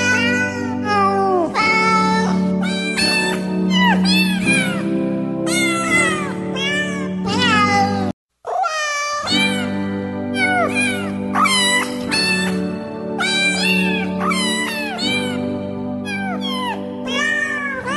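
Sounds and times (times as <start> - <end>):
cat meowing: 0.0 - 4.9, 5.5 - 12.6, 13.2 - 17.9
background music: 0.0 - 8.2, 9.2 - 17.9.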